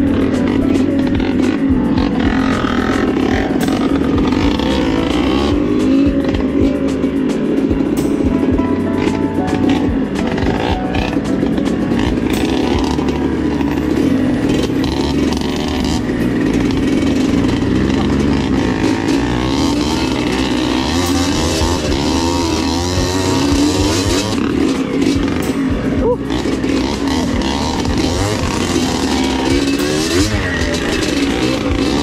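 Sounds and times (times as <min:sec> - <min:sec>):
dirt bike engine revving: 0:00.0 - 0:32.0
second dirt bike engine: 0:00.0 - 0:32.0.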